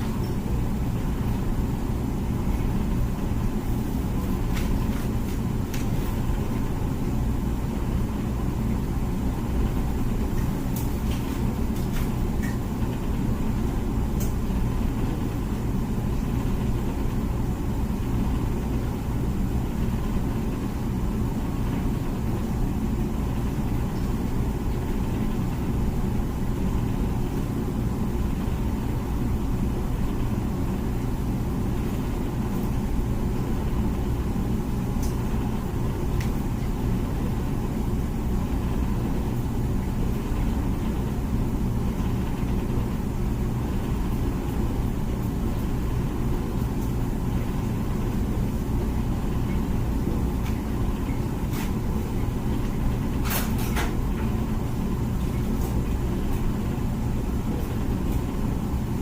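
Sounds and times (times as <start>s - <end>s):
dishwasher humming: 0.0s - 59.0s.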